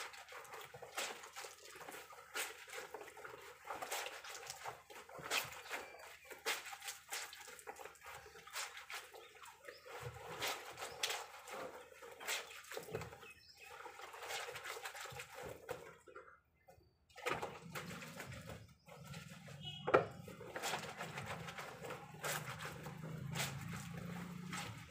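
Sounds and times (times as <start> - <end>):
blanket splashing in water: 0.0 - 16.1, 17.1 - 24.9.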